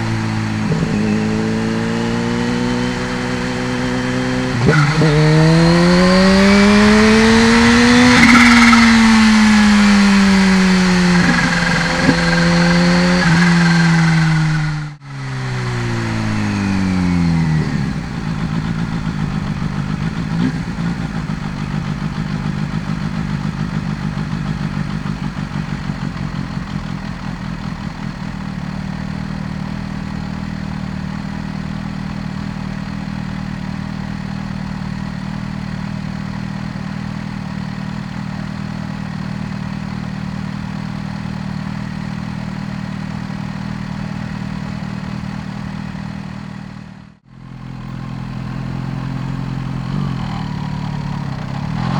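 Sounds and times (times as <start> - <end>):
motorcycle engine idling: 0.0 - 51.9.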